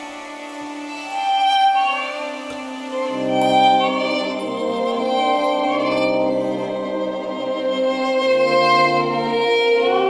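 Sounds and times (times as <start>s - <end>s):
violin playing slow notes: 0.0s - 10.0s.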